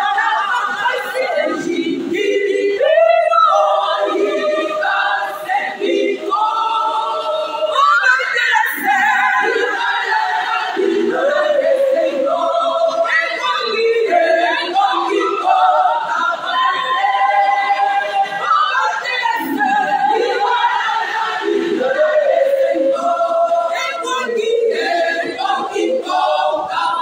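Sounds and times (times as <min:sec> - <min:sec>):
women's choir singing: 0:00.0 - 0:27.0.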